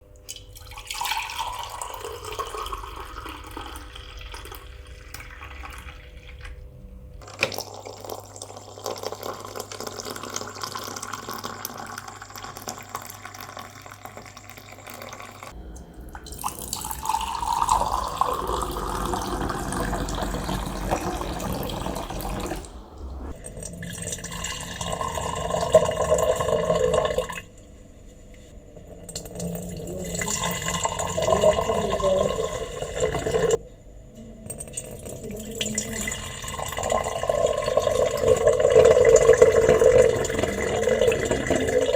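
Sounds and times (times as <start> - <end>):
water pouring into a vessel: 0.2 - 27.5, 29.0 - 33.6, 34.6 - 41.9.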